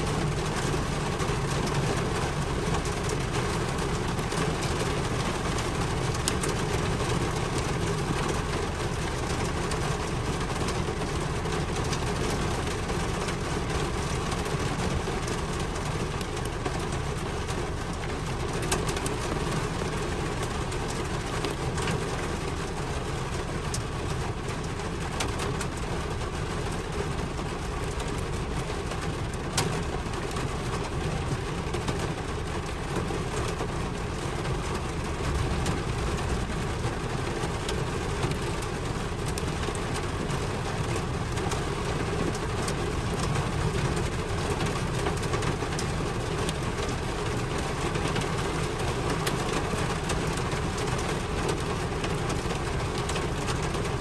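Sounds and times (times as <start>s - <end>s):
raindrop ticks: 0.0s - 54.0s
steady rain hiss: 0.0s - 54.0s.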